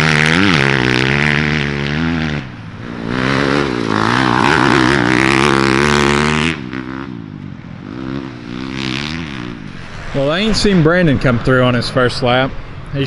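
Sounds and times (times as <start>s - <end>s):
dirt bike engines revving: 0.0s - 13.0s
quieter bike engine revving: 0.0s - 13.0s.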